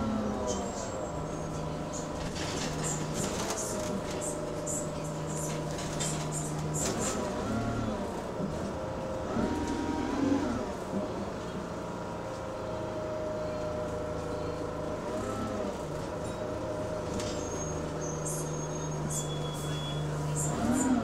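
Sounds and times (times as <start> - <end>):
bus engine moaning: 0.0 - 21.0.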